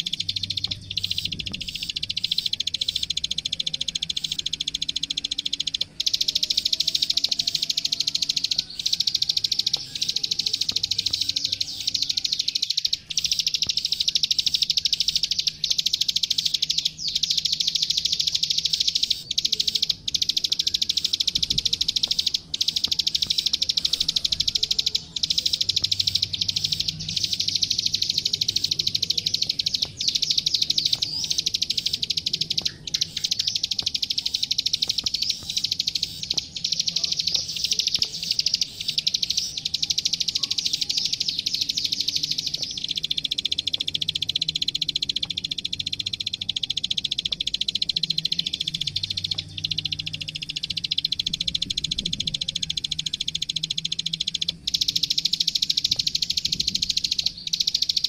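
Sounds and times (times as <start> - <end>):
bird chattering trill: 0.0 - 58.0.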